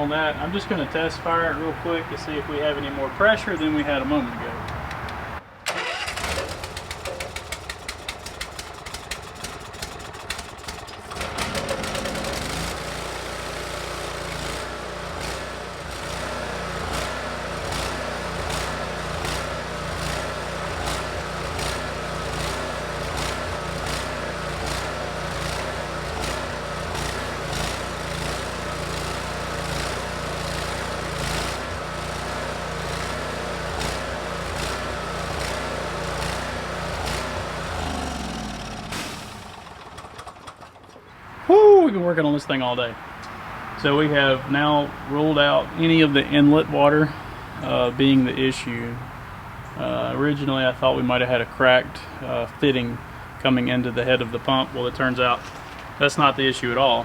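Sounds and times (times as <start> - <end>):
gasoline engine running: 0.0 - 57.0.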